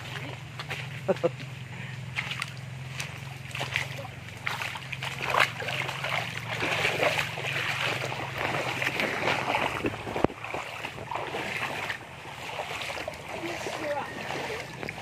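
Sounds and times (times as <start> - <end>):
river water running and splashing: 0.0 - 15.0.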